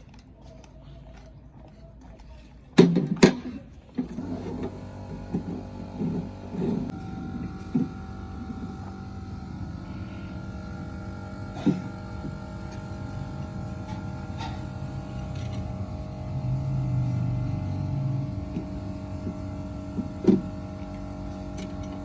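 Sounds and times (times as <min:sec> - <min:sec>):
steady machine drone: 0:04.0 - 0:22.0.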